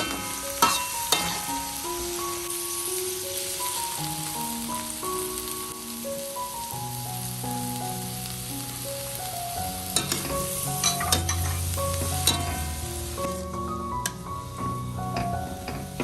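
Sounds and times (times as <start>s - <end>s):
food sizzling in a pan: 0.0s - 16.0s
light background music: 0.0s - 16.0s.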